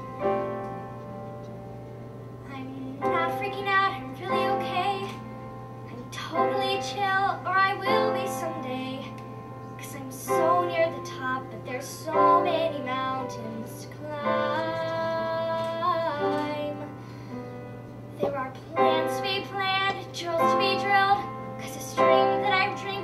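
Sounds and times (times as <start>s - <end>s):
piano accompaniment: 0.0s - 23.0s
girl singing: 2.4s - 5.3s, 5.9s - 17.0s, 18.1s - 23.0s.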